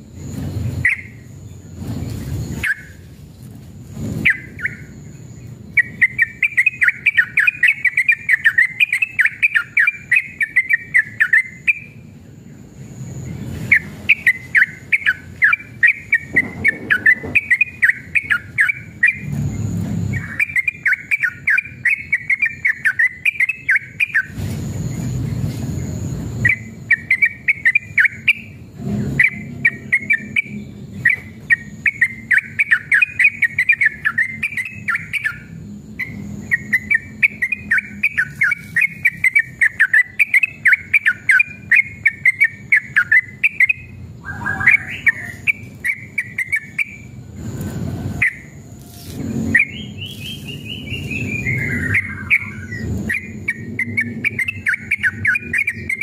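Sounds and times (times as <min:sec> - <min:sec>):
bulbul singing chattering notes: 0:00.0 - 0:03.1, 0:04.0 - 0:47.2, 0:49.4 - 0:56.0
low rumbling noise: 0:00.0 - 0:56.0.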